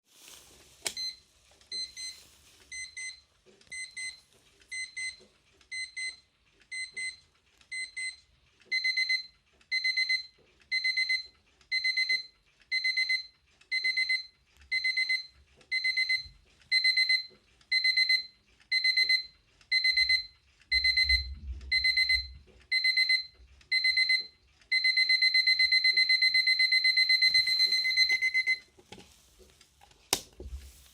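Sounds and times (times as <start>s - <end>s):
alarm clock beeping: 1.0s - 28.7s.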